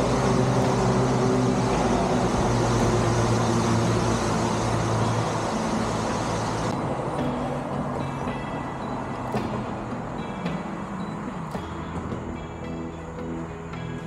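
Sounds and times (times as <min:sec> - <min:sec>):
road traffic noise: 0:00.0 - 0:14.0
vehicle engine humming: 0:00.0 - 0:14.0.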